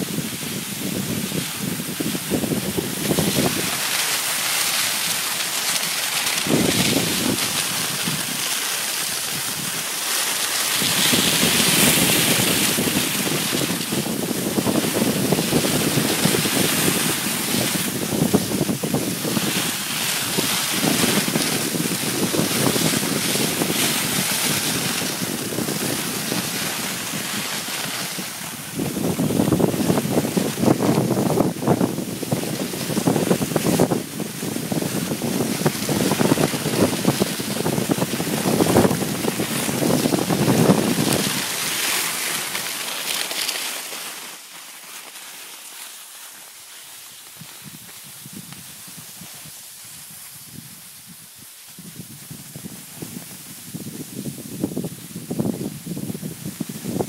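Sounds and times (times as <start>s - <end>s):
wind buffeting microphone: 0.0s - 43.2s, 47.4s - 57.0s
skis hissing and scraping on snow: 0.0s - 57.0s.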